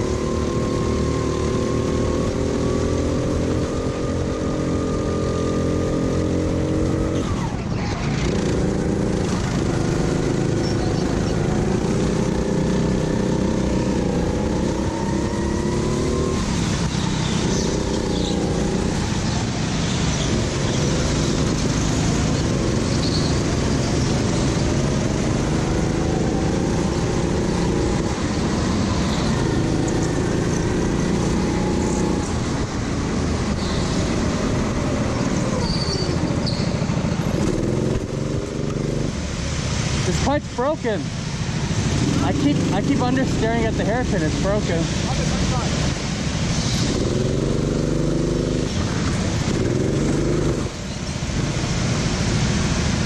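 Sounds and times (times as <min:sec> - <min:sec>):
go-kart engine revving: 0:00.0 - 0:39.4, 0:40.0 - 0:53.0
steady rush of noise: 0:00.0 - 0:53.0.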